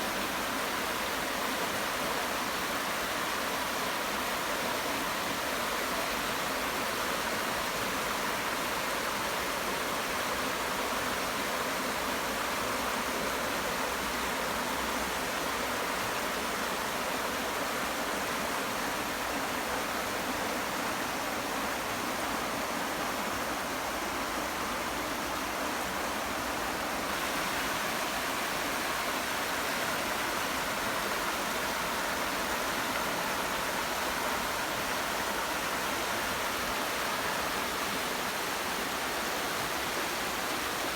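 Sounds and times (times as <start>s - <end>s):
river rushing over rapids: 0.0s - 40.9s.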